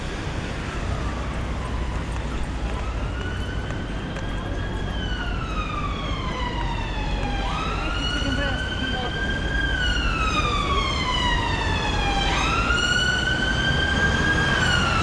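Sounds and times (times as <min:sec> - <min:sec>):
emergency siren wailing: 0:00.0 - 0:15.0
street noise: 0:00.0 - 0:15.0.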